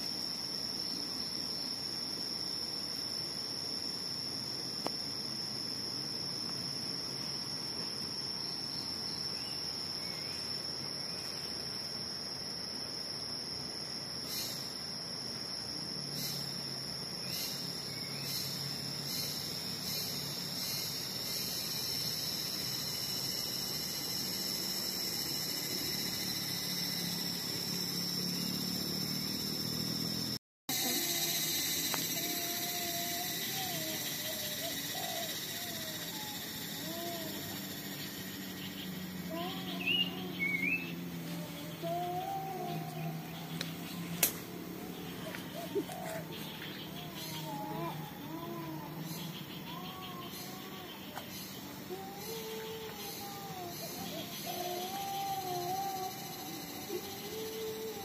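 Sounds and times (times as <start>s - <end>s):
high-pitched insect buzz: 0.0s - 58.0s
short sharp insect chirps: 0.0s - 58.0s.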